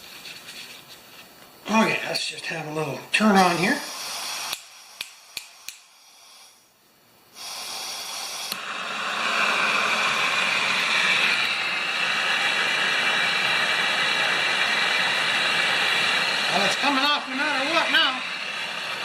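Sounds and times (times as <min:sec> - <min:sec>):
gas torch hissing: 0:01.5 - 0:19.0.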